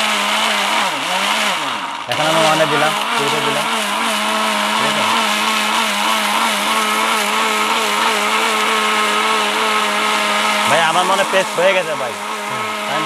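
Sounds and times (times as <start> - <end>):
blender motor whining: 0.0 - 13.0.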